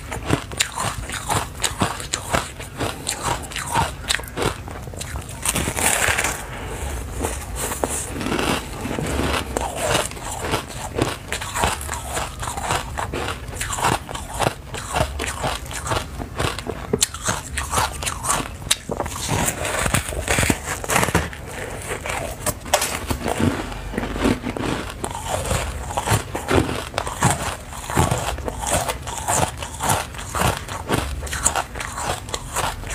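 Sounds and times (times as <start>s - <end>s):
person chewing crunchy food: 0.0s - 32.9s.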